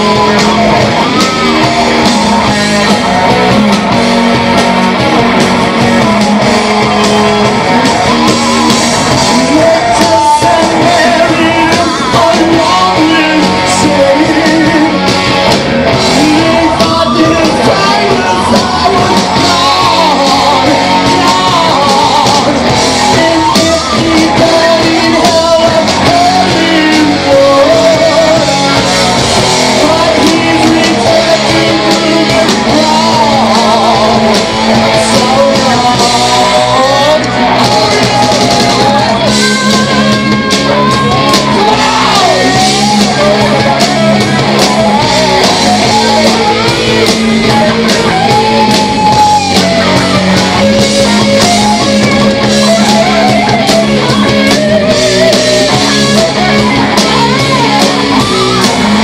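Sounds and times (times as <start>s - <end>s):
man singing: 0.0s - 4.6s, 5.6s - 59.0s
bass guitar: 0.0s - 59.0s
drums: 0.0s - 59.0s
electric guitars: 0.0s - 59.0s.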